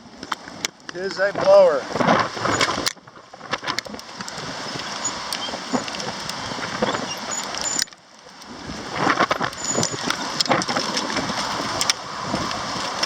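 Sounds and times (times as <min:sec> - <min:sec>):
strong wind buffeting microphone: 0:00.0 - 0:13.0
clicks and rattles: 0:00.2 - 0:12.0.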